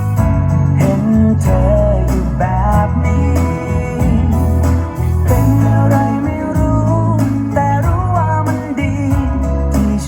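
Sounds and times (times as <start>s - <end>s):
song with guitar and heavy bass: 0.0s - 10.0s.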